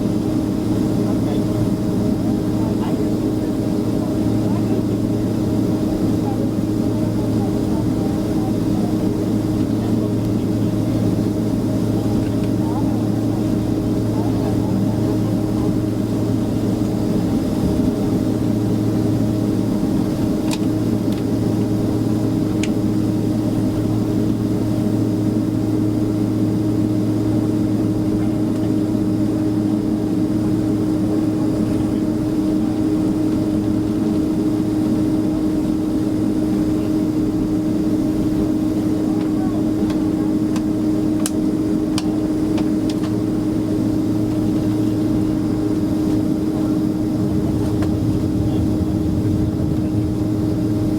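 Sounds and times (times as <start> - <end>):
airliner cabin hum: 0.0 - 50.9.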